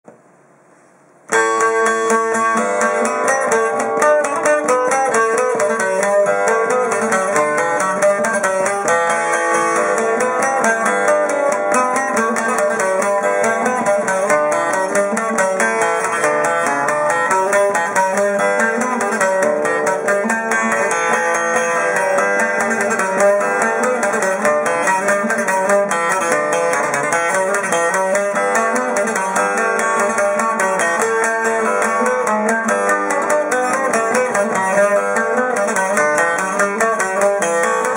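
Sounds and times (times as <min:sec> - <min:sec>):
lute picked rapidly: 0:01.3 - 0:37.9.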